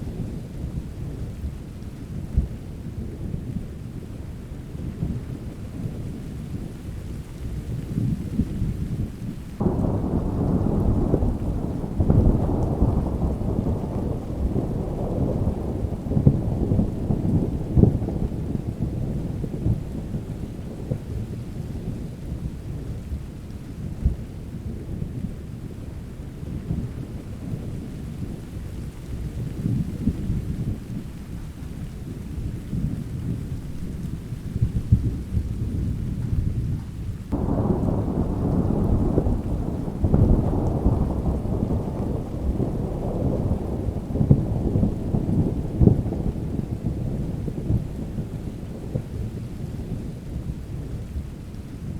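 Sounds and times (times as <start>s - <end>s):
rain: 0.0s - 51.9s
rolling thunder: 7.6s - 51.9s.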